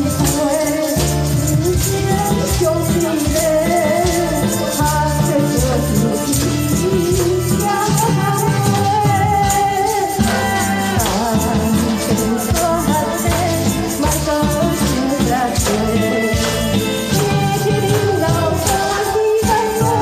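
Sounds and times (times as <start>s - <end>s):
backing track: 0.0s - 20.0s
tambourine shaken: 0.0s - 20.0s
woman singing into microphone: 0.0s - 20.0s.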